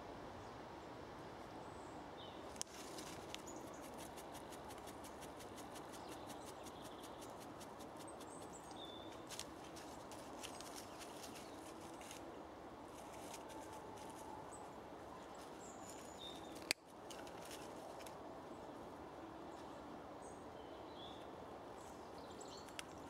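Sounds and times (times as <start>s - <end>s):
outdoor background noise: 0.0s - 23.0s
small birds chirping: 1.6s - 12.3s, 12.9s - 18.6s, 19.5s - 23.0s.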